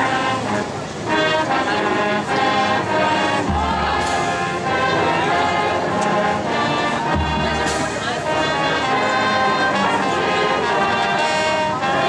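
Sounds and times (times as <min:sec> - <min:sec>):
marching band brass chords: 0:00.0 - 0:12.0.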